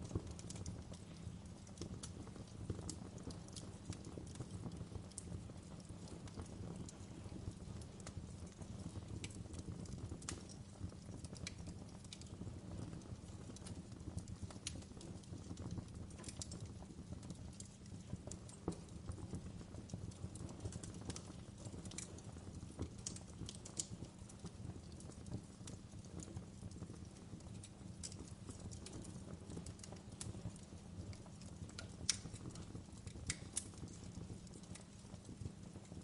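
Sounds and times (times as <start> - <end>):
fireplace crackling: 0.0 - 36.0.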